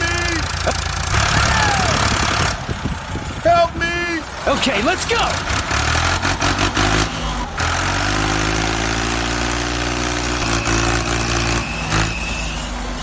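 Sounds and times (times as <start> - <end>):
tractor engine humming: 0.0 - 13.0.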